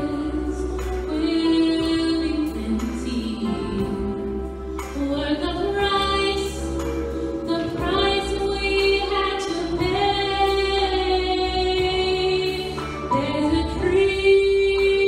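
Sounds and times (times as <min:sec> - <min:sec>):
woman singing into microphone: 0:00.0 - 0:15.0.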